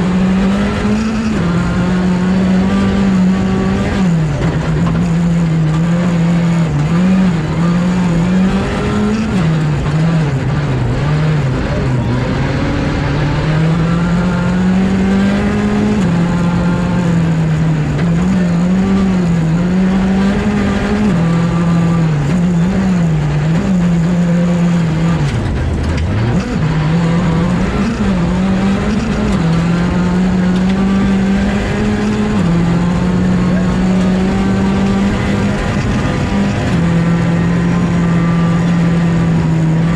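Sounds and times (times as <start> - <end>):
rally car engine at high revs: 0.0 - 39.9.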